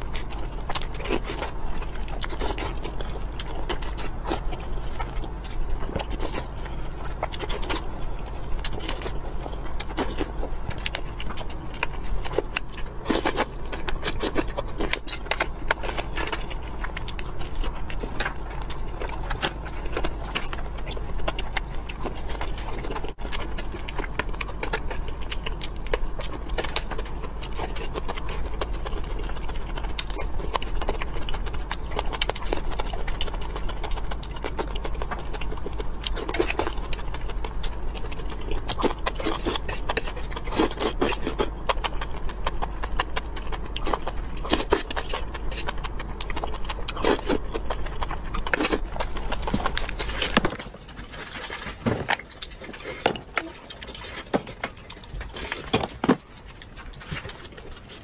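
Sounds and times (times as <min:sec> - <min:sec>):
steady low hum: 0:00.0 - 0:58.0
wet chewing and slurping: 0:00.0 - 0:58.0.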